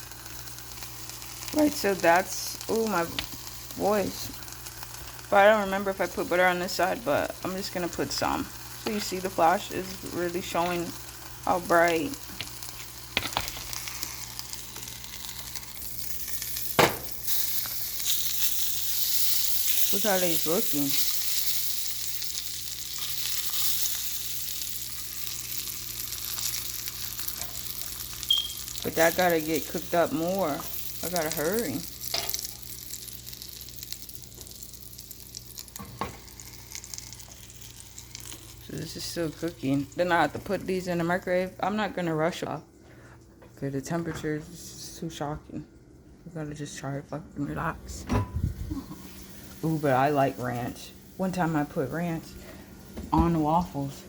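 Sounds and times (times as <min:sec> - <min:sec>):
food sizzling in a frying pan: 0:00.0 - 0:40.7, 0:48.4 - 0:54.0.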